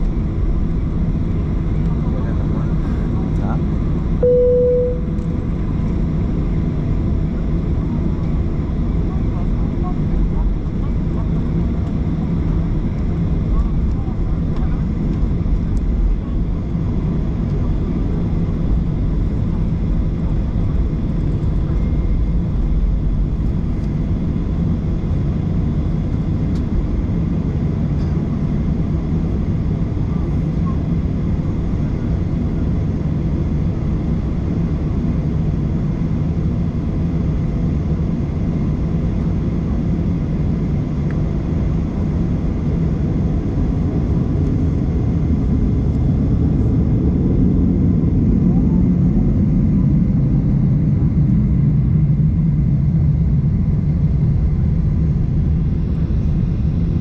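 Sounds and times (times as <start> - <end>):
jet engine drone inside cabin: 0.0 - 57.0.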